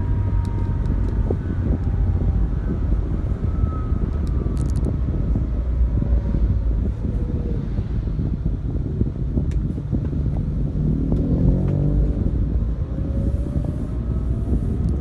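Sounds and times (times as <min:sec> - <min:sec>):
vehicle engine and road rumble: 0:00.0 - 0:15.0
wind on microphone: 0:00.0 - 0:15.0.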